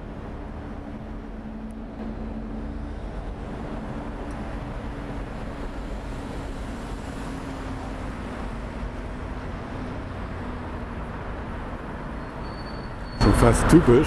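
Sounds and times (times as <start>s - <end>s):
low engine hum: 0.0s - 12.3s
passing cars: 0.0s - 14.0s.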